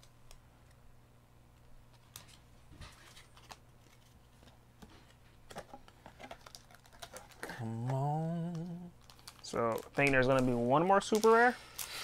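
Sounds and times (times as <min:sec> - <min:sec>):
low steady hum: 0:00.0 - 0:12.0
cards rustling and tapping: 0:01.9 - 0:12.0.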